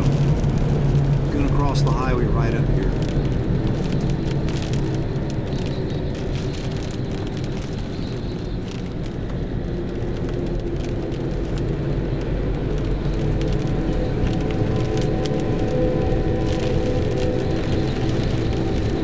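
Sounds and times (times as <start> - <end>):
car road and engine noise: 0.0 - 19.0
rain ticking on windshield: 0.0 - 19.0.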